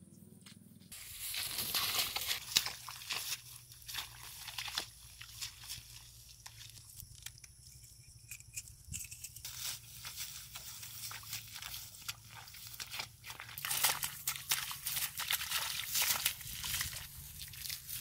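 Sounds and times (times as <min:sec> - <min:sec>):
grass rustling and crackling: 0:00.9 - 0:18.0.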